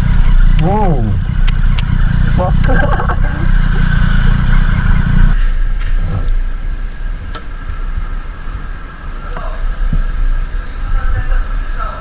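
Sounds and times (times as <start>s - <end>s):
wind and road hiss: 0.0s - 12.0s.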